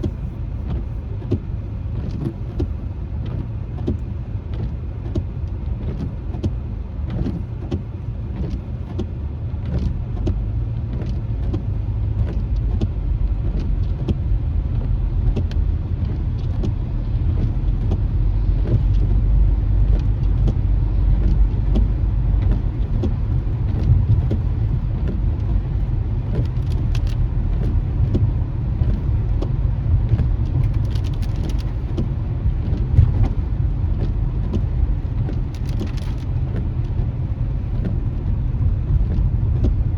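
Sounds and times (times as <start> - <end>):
road noise inside car: 0.0 - 39.9.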